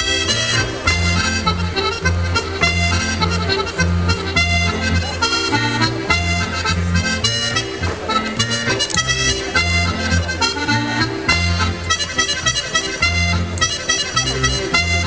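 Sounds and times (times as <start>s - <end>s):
accordion playing folk dance tune: 0.0s - 15.0s.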